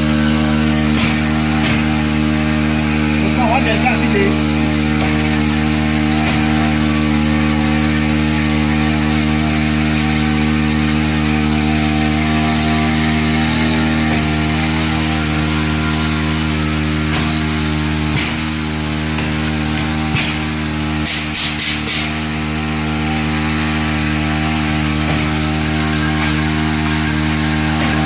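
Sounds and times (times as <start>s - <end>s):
small sprayer engine running: 0.0s - 28.0s.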